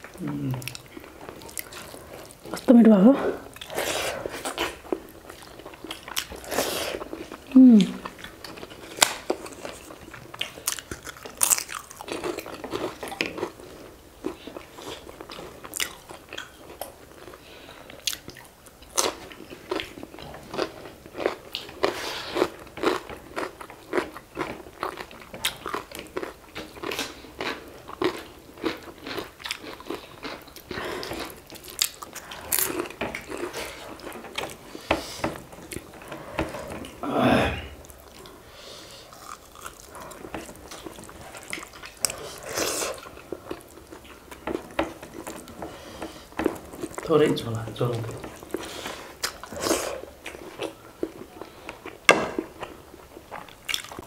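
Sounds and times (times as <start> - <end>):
chewing and crunching: 0.0 - 2.7, 3.3 - 37.0, 37.8 - 38.4, 39.0 - 54.0.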